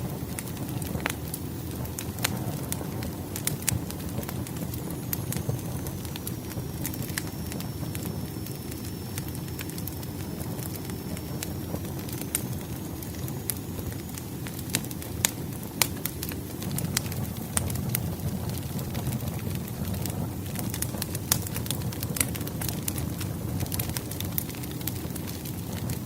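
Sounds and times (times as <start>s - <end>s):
campfire flames rumbling: 0.0s - 26.0s
fire popping and crackling: 0.0s - 26.0s.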